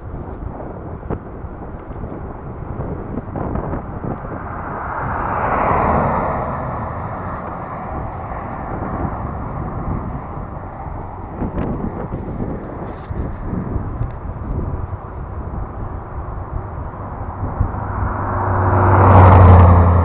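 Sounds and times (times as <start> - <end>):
wind rumbling on microphone: 0.0 - 20.0
car passing: 2.3 - 20.0.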